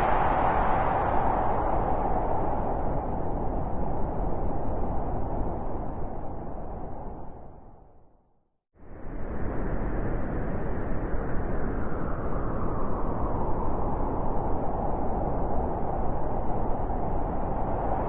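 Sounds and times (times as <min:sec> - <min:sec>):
wind blowing: 0:00.0 - 0:08.1, 0:08.8 - 0:18.0.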